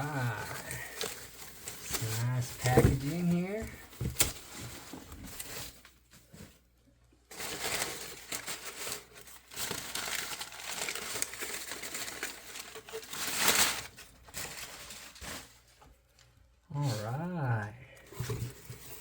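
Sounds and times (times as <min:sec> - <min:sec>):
packing material crinkling: 0:00.0 - 0:06.6, 0:07.3 - 0:17.0.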